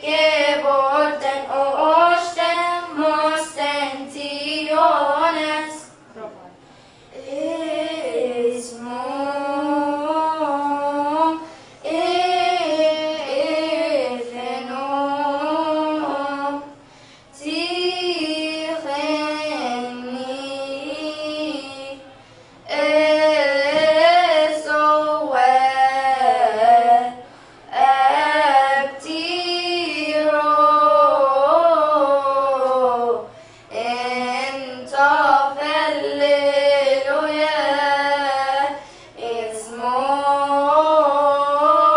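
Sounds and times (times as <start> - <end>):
girls singing a hymn unaccompanied: 0.0 - 6.1, 7.0 - 41.9.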